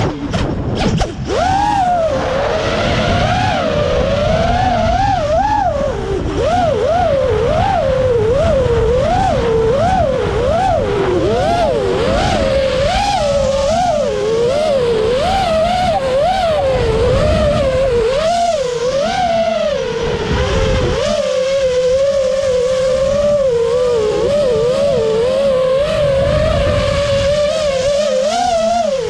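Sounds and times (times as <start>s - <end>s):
drone motors whining: 0.0s - 29.0s
rushing wind noise: 0.0s - 29.0s.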